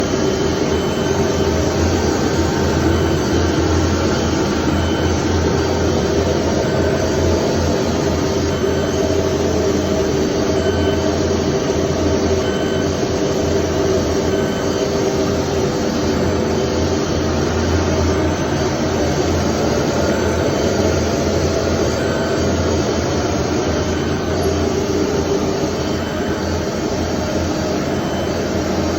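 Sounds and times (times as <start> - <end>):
cnc router machine noise: 0.0 - 28.9.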